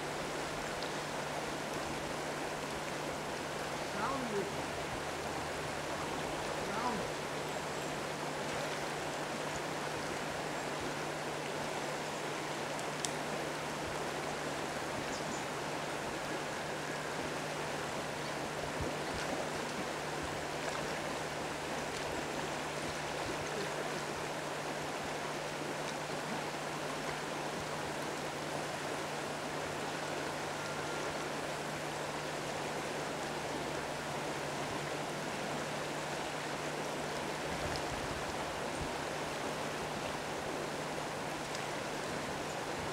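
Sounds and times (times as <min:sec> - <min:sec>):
low steady hum: 0:00.0 - 0:42.9
river water rushing: 0:00.0 - 0:42.9.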